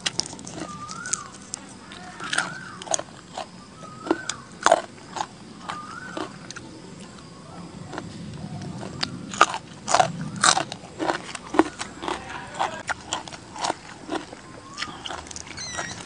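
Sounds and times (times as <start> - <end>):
chewing with sharp crunches: 0.0 - 16.0.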